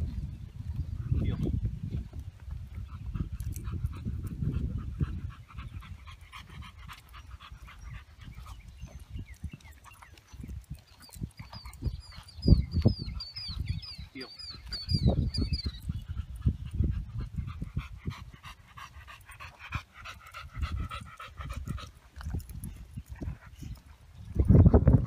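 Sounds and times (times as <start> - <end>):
dog panting: 2.6 - 25.0.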